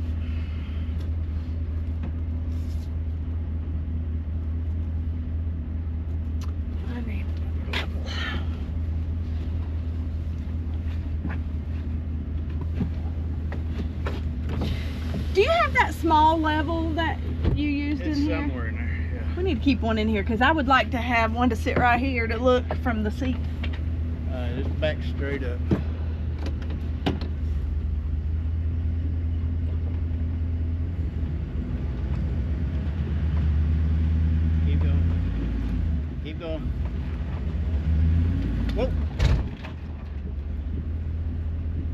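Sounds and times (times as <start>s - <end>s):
engine running low hum: 0.0s - 41.9s.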